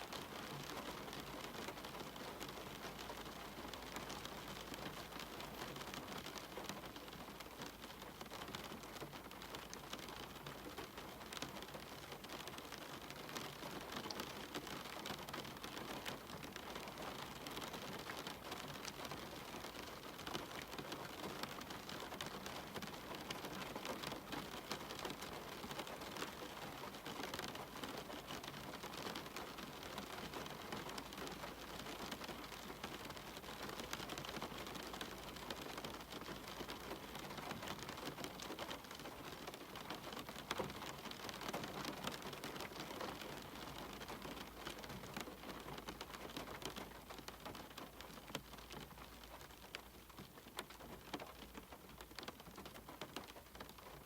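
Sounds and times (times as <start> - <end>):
raindrops pattering on hard surfaces: 0.0 - 54.0
steady rain falling: 0.0 - 54.0.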